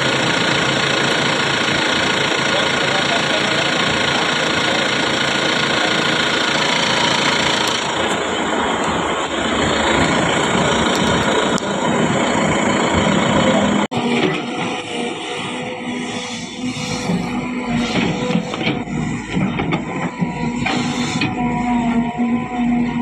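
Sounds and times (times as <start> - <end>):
excavator running: 0.0 - 23.0.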